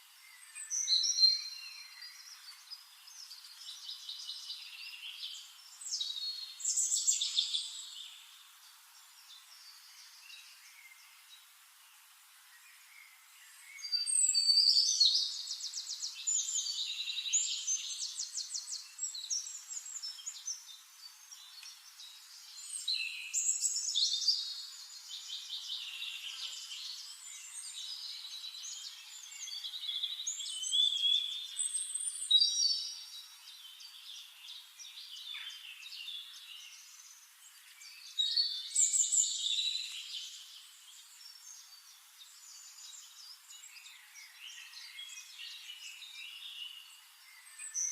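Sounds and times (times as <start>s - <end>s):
bird song with trills: 0.0s - 11.6s, 12.4s - 47.9s.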